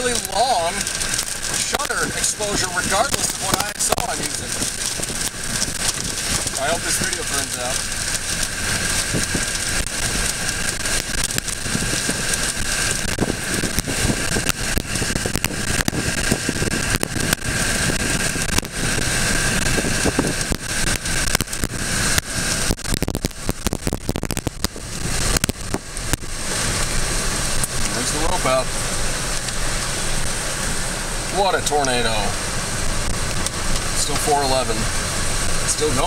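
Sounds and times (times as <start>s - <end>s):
crackling pops: 0.0s - 36.0s
wind and rain rushing: 0.0s - 36.0s.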